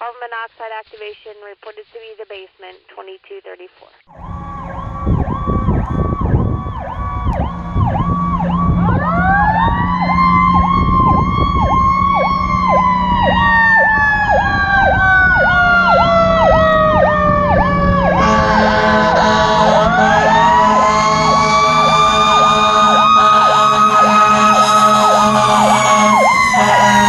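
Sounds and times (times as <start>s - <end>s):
electronic siren pulsing: 4.1s - 27.0s
steady low drone: 4.1s - 27.0s
wailing mechanical siren: 4.1s - 27.0s.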